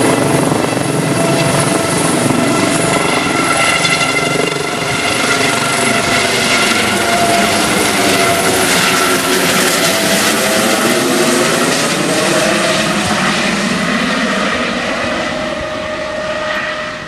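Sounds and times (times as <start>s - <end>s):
helicopter rotor chop: 0.0s - 17.0s
turbine engine whine: 0.0s - 17.0s.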